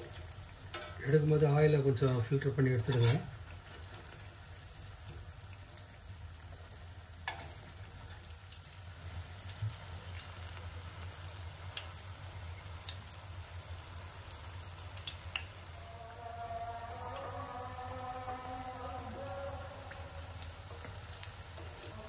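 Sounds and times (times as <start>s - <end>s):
batter deep-frying in oil: 0.0s - 22.0s.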